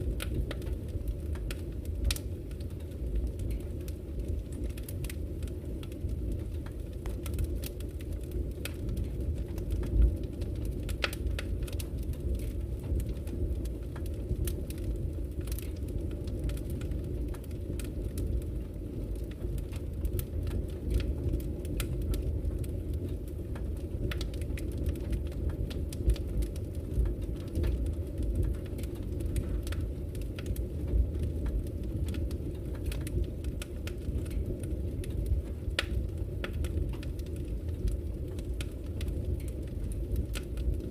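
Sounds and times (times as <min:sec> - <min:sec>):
wood fire burning: 0:00.0 - 0:40.9.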